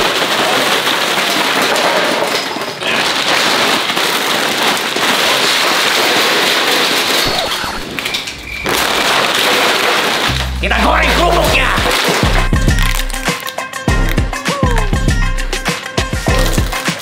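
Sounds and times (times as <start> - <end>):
crackers rattling in plastic packs: 0.0 - 17.0.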